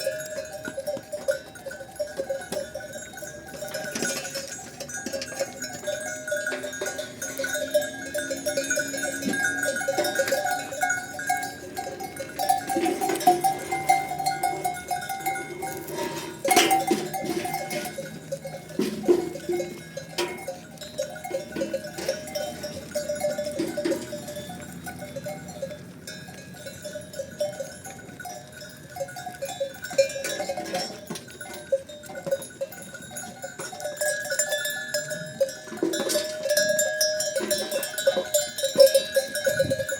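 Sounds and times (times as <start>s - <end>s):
animal bells clinking: 0.0s - 39.9s.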